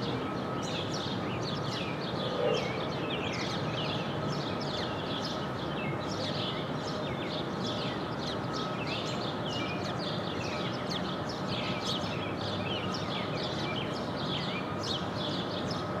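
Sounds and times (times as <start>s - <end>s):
outdoor background noise: 0.0s - 16.0s
songbirds chirping: 0.0s - 16.0s.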